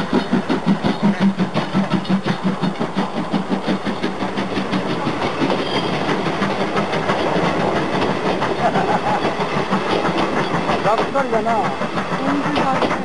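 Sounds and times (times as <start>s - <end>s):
train wheels clacking: 0.0s - 13.0s.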